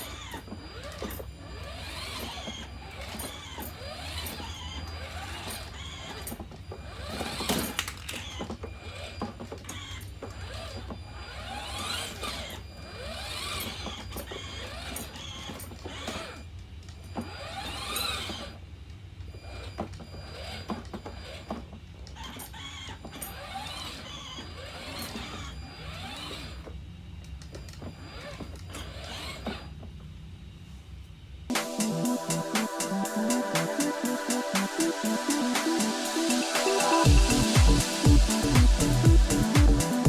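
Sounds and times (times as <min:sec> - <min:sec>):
toy car electric motors whining: 0:00.0 - 0:30.1, 0:31.6 - 0:40.0.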